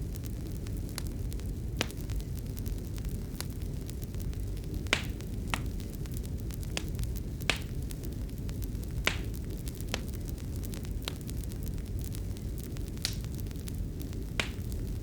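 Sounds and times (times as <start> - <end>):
fire crackling with pops and snaps: 0.0 - 15.0.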